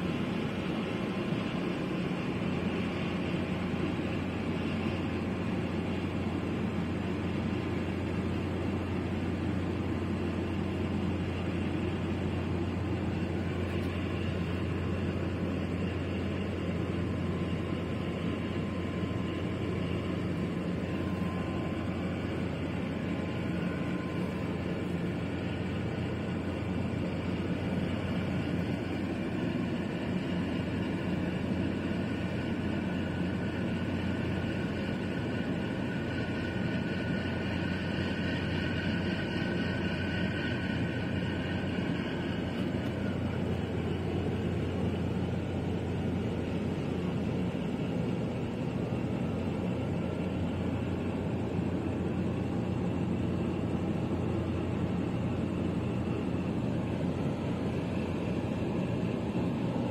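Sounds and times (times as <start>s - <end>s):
ship engine low rumble: 0.0s - 59.9s.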